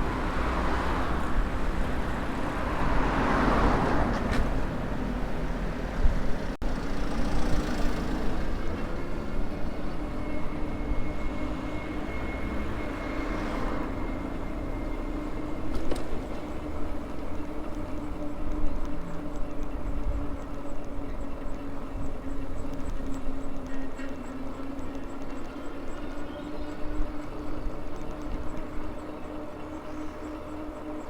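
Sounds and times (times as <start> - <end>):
wind and road rumble: 0.0 - 31.0.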